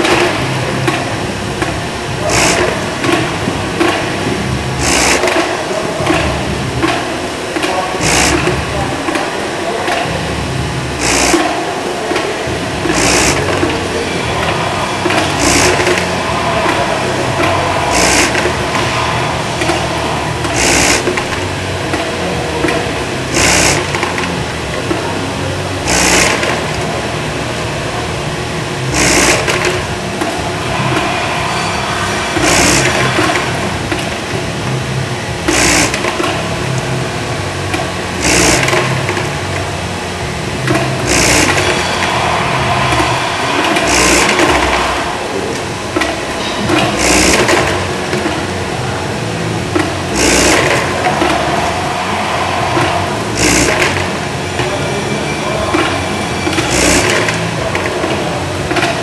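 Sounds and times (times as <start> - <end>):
parts feeder running: 0.0 - 31.1, 31.9 - 59.0.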